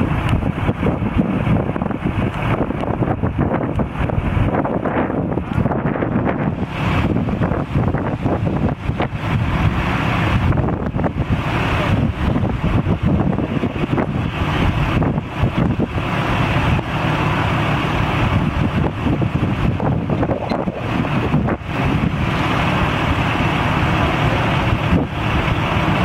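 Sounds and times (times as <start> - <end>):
vehicle and road noise: 0.0 - 26.0
wind buffeting microphone: 0.0 - 26.0.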